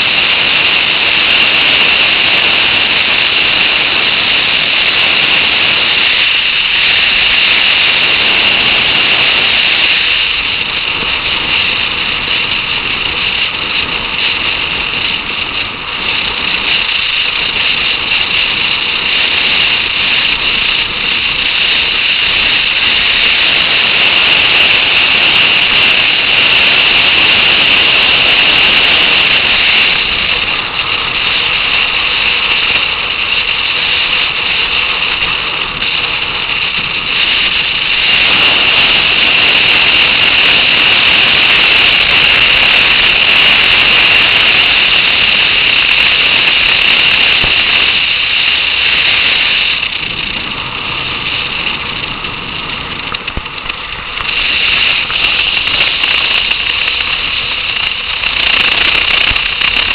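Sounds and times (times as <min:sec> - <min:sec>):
motorcycle engine: 0:00.0 - 0:59.9
road noise: 0:00.0 - 0:59.9
wind rushing: 0:00.0 - 0:59.9.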